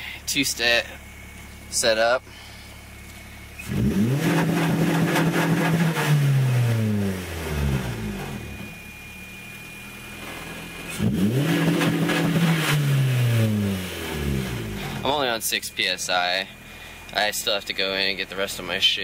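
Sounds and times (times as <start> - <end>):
rev limiter crackling: 0.1 - 19.0
car engine revving: 2.7 - 18.8.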